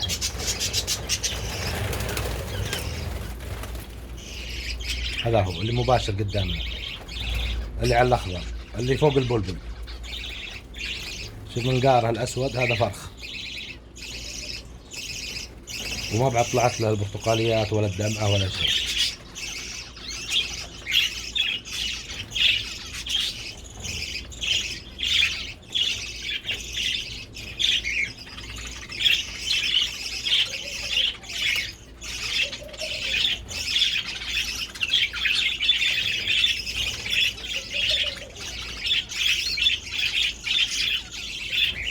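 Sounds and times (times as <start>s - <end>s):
finches chirping: 0.0s - 41.9s.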